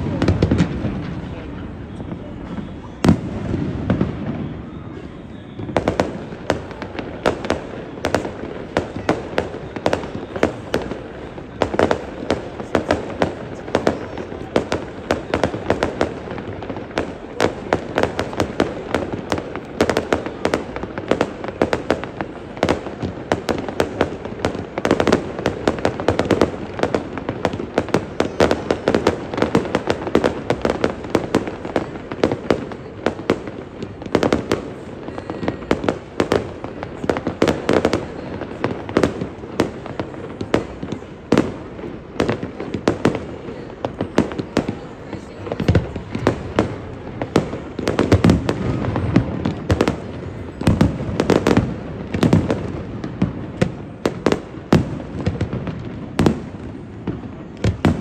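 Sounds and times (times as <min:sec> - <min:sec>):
fireworks bangs and crackling pops: 0:00.0 - 0:58.0.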